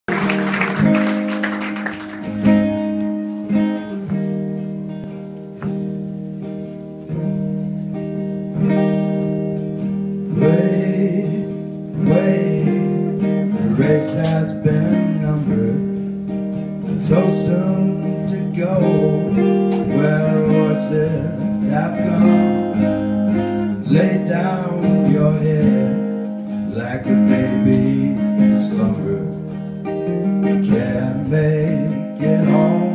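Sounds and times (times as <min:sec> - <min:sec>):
guitar chords strummed: 0:00.1 - 0:32.9.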